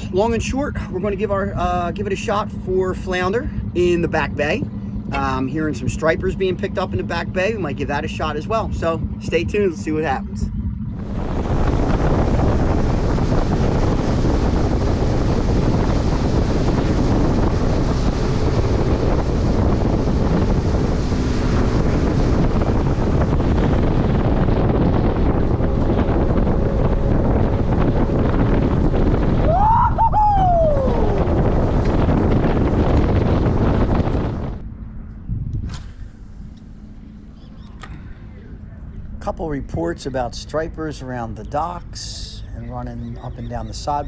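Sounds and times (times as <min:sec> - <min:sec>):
water rushing along hull: 0:00.0 - 0:44.0
wind buffeting microphone: 0:00.0 - 0:44.0.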